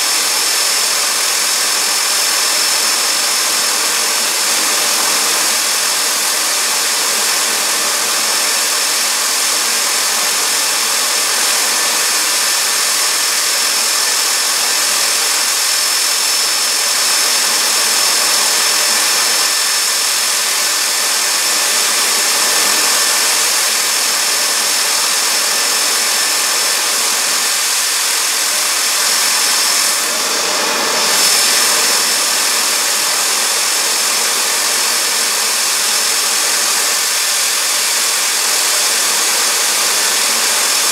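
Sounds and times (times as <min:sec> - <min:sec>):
jet engine high whine: 0:00.0 - 0:40.9
jet engine rushing hiss: 0:00.0 - 0:40.9.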